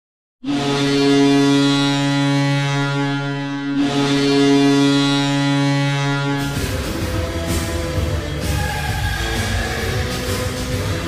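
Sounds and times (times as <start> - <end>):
hockey goal horn blasts: 0.4 - 11.0.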